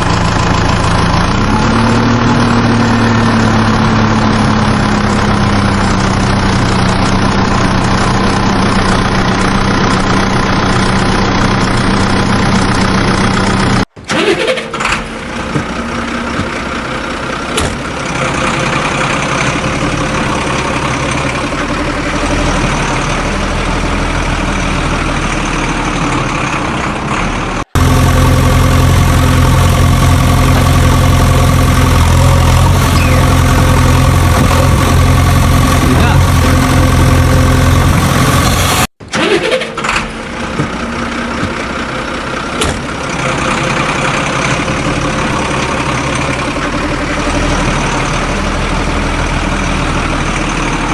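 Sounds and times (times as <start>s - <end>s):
vehicle engine idling: 0.0s - 38.9s, 39.7s - 50.9s.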